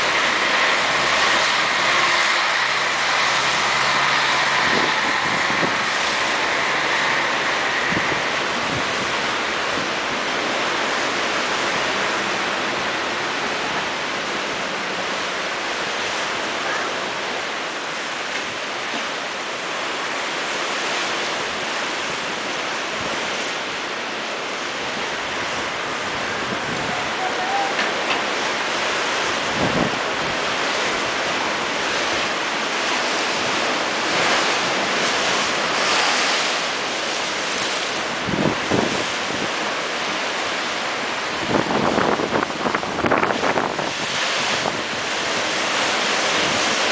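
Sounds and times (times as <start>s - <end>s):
low thumps of waves: 0.0s - 46.9s
surf breaking against seawall: 0.0s - 46.9s.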